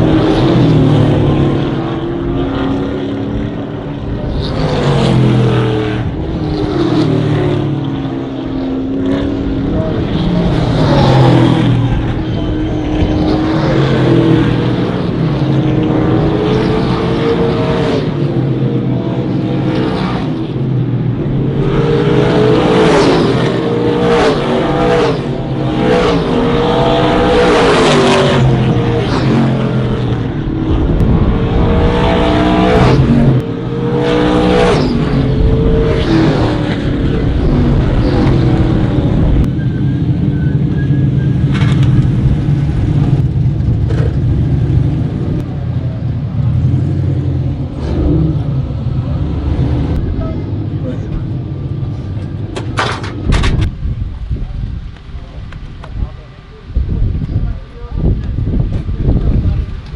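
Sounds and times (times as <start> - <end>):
race car engines at speed: 0.0 - 59.9.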